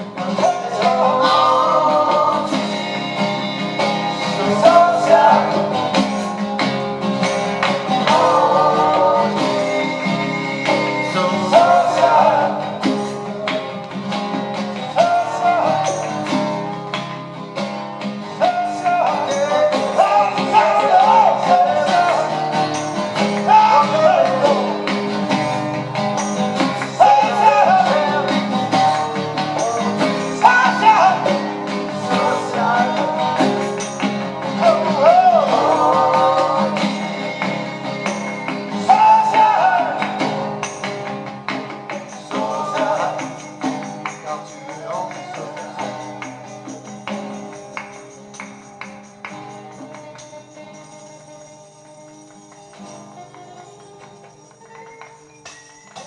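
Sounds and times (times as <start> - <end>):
acoustic rock music: 0.0 - 56.0.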